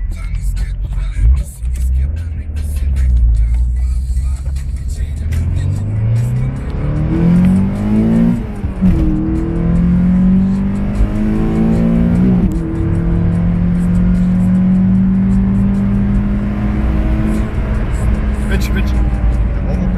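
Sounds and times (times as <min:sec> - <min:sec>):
car engine accelerating: 0:01.0 - 0:19.9.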